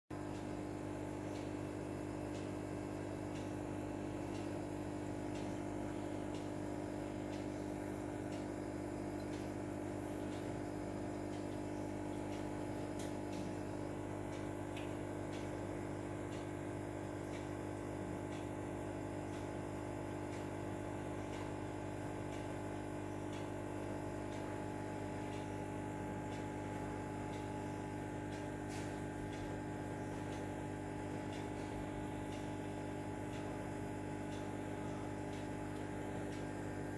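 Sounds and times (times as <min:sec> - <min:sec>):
mechanical hum: 0:00.1 - 0:36.9.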